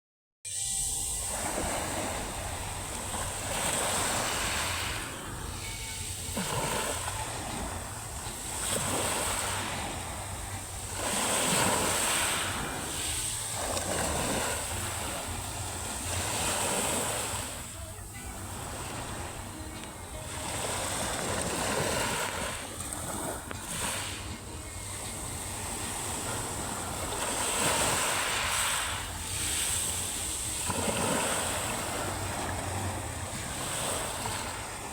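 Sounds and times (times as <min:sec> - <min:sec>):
waves breaking on shore: 0:00.5 - 0:34.9.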